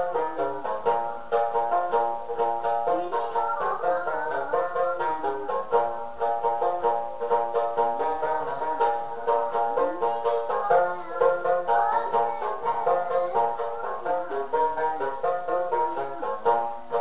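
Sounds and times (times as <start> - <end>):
plucked lute strumming: 0.0 - 17.0.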